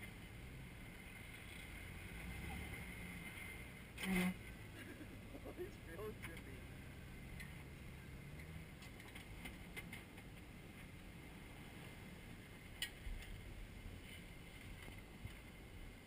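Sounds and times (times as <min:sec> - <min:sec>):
vehicle engine running low: 0:00.0 - 0:16.0.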